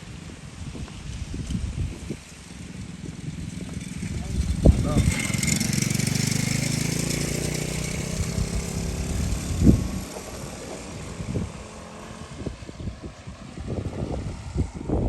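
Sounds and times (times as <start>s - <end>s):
small engine buzzing: 2.5s - 15.0s.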